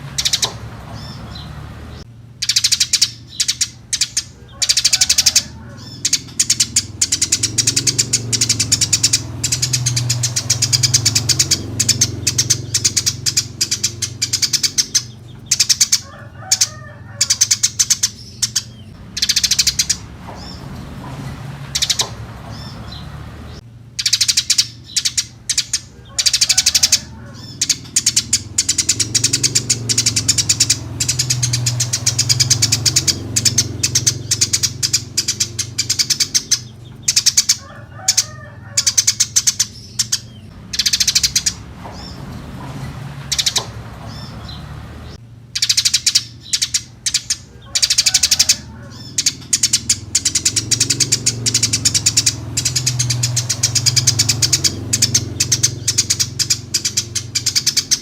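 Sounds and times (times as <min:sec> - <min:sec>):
sparrow chirping: 0:00.0 - 0:58.0.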